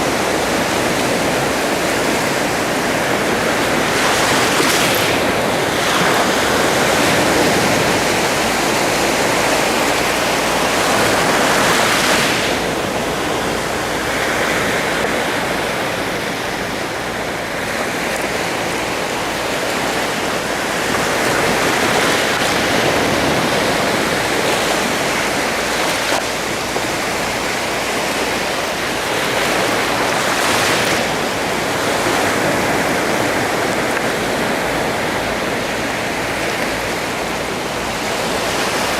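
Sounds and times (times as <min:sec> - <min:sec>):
waves washing on shore: 0:00.0 - 0:38.9.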